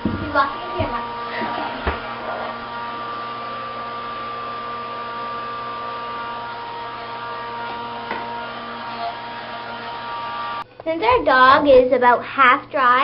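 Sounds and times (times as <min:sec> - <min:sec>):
hair dryer running: 0:00.0 - 0:11.1.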